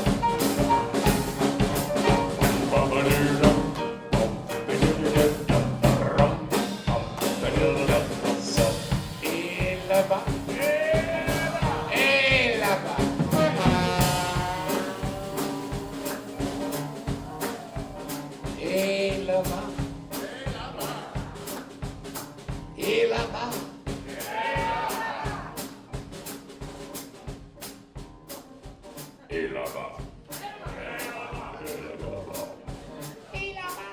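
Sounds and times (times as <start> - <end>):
drum kit beat: 0.0 - 33.9
jazz band playing: 0.0 - 33.9.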